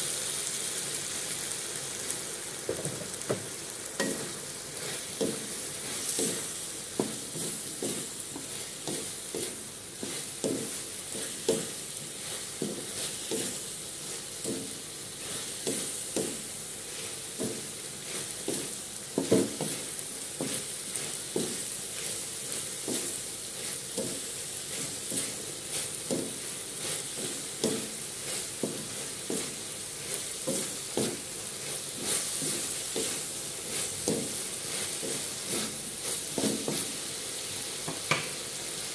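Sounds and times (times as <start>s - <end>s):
meat sizzling in a wok: 0.0s - 38.9s
wooden spatula scraping a pan: 4.0s - 37.0s.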